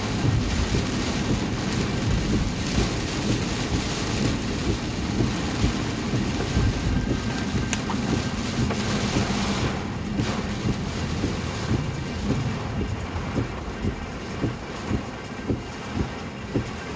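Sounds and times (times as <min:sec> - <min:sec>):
heavy rain pelting car: 0:00.0 - 0:16.9
tyres rumbling on flooded road: 0:00.0 - 0:16.9
windscreen wipers beating: 0:00.0 - 0:16.9.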